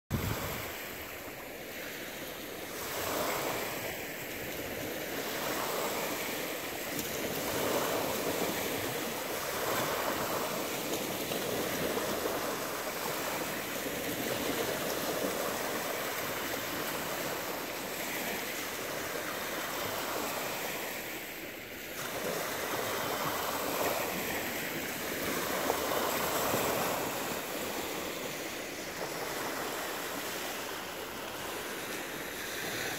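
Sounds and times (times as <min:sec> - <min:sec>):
waves washing up pebbly shore: 0:00.1 - 0:32.9.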